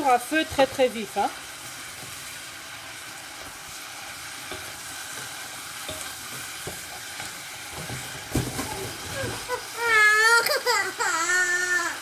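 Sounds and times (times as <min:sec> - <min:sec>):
meat and onions sizzling in oil: 0:00.0 - 0:12.0.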